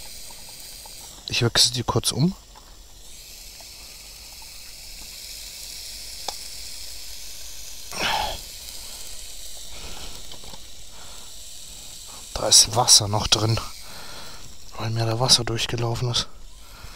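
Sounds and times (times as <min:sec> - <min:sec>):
gas grill hissing: 0:00.0 - 0:16.9.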